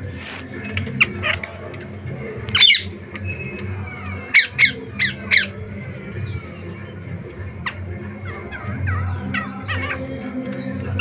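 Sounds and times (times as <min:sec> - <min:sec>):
soft parakeet chatter: 0:00.0 - 0:11.0
parakeets screeching: 0:00.8 - 0:11.0.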